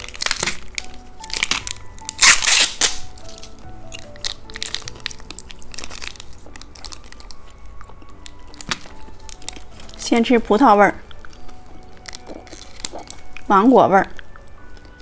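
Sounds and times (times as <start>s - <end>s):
plastic wrapper crinkling: 0.0s - 10.3s, 11.0s - 13.5s
candy snack crunching: 0.0s - 15.0s
light background music: 0.0s - 15.0s.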